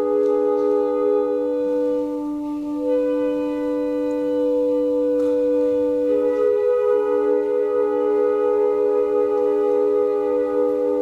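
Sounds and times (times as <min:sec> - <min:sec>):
flute and clarinet ensemble chords: 0:00.0 - 0:11.0.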